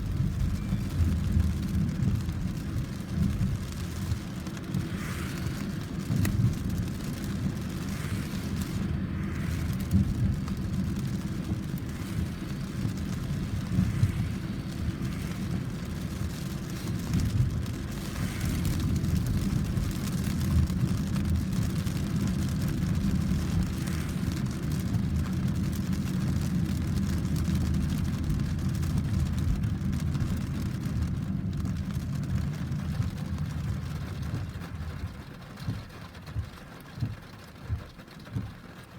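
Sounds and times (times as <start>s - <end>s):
low thunder rumble: 0.0s - 37.8s
rain falling: 0.0s - 38.9s.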